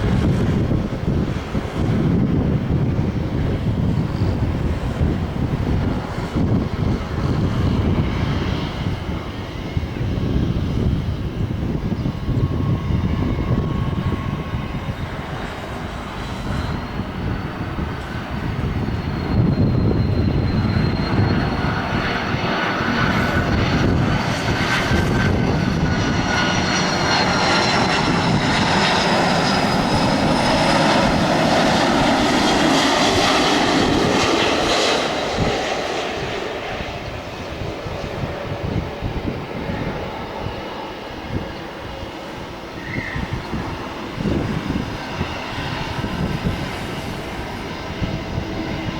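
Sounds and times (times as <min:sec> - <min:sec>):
jet engines whining and rumbling: 0:00.0 - 0:48.9.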